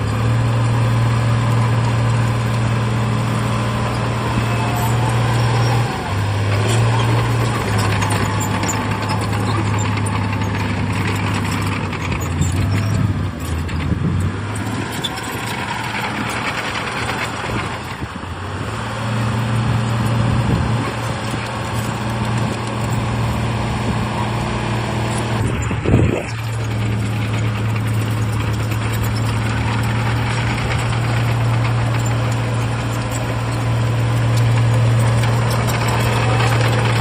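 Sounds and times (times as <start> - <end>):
diesel machinery engine running: 0.0 - 37.0.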